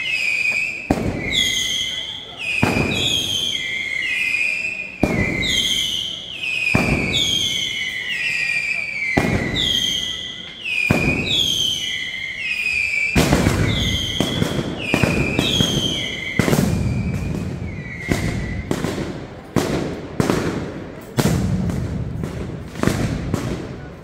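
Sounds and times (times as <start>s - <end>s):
firecrackers banging: 0.0s - 24.0s
whistling fireworks: 0.0s - 24.0s.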